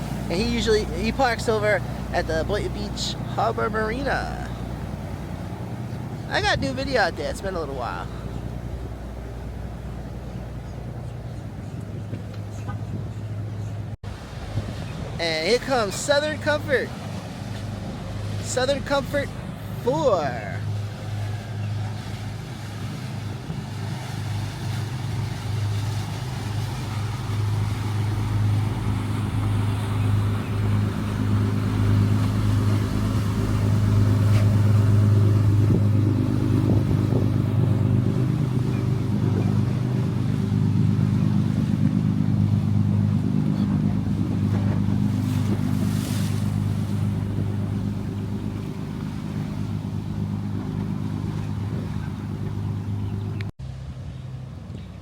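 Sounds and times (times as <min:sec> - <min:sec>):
motorboat engines droning: 0:00.0 - 0:55.0.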